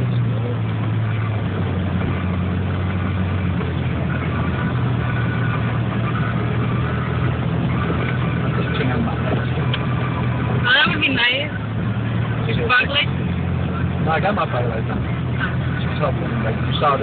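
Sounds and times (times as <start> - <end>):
car engine humming: 0.0 - 17.0
road and cabin noise: 0.0 - 17.0.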